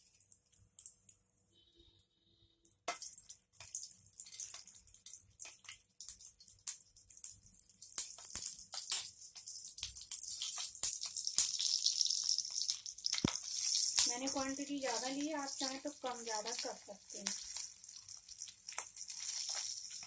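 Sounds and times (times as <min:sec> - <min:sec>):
oil popping and crackling: 0:00.0 - 0:01.2, 0:02.8 - 0:20.0
chillies sizzling in hot oil: 0:00.0 - 0:01.6, 0:02.8 - 0:20.0.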